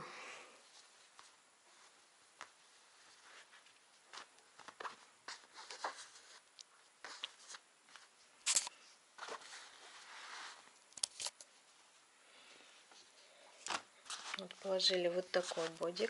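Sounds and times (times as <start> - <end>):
cloth rustling by hand: 0.6 - 16.0.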